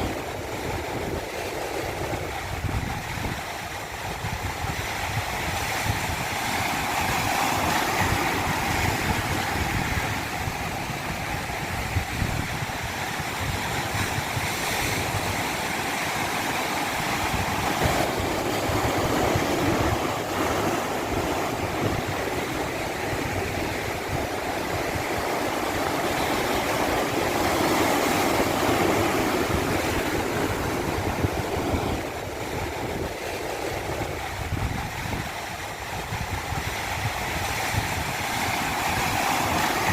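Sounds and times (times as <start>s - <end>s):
stream rushing over cascade: 0.0s - 39.9s.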